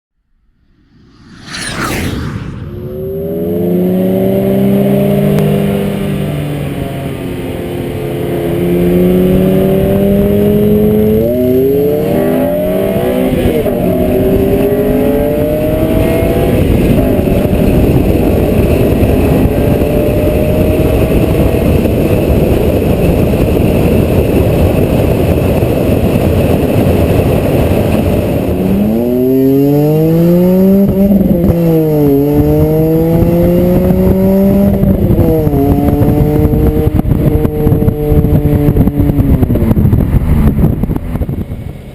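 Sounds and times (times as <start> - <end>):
wind and road noise: 0.1 - 41.9.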